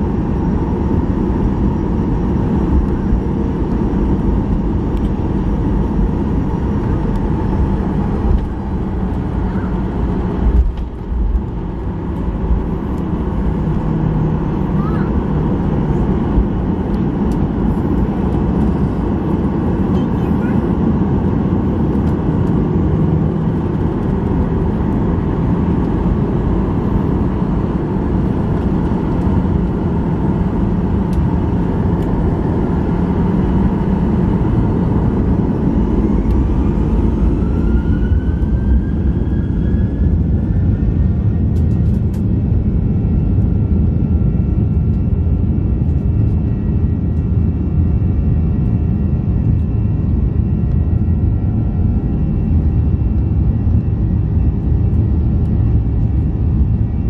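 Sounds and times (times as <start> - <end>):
jet engine rumble: 0.0 - 57.0
jet engine whine: 0.0 - 57.0.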